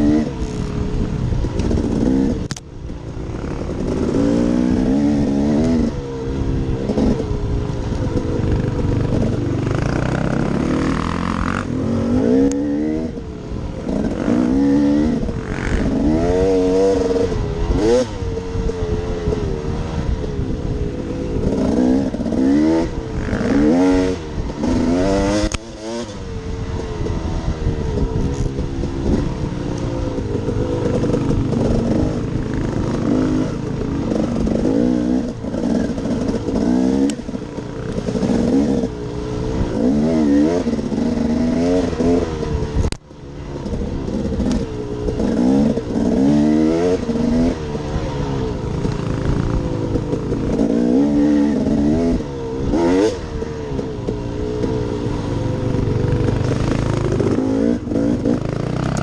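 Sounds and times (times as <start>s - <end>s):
dirt bike engine revving: 0.0s - 2.6s, 3.2s - 26.3s, 27.0s - 43.0s, 43.6s - 59.0s.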